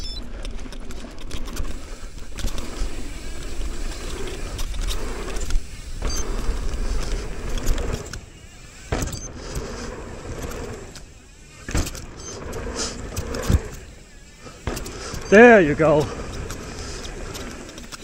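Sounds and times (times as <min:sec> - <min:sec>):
tyre noise on dirt: 0:00.0 - 0:18.0
bike chain rattling: 0:00.2 - 0:18.0.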